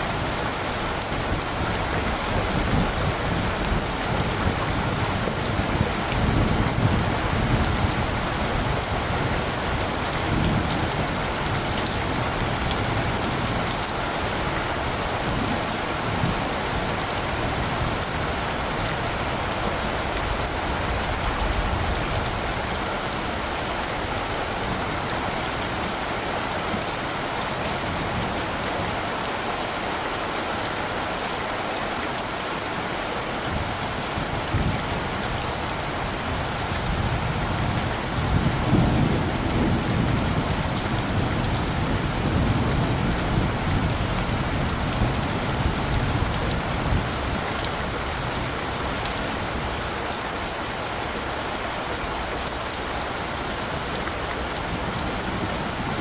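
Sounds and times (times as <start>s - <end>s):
light thunder rumbling: 0.0s - 31.2s, 32.6s - 51.3s, 51.9s - 56.0s
rain hissing: 0.0s - 56.0s.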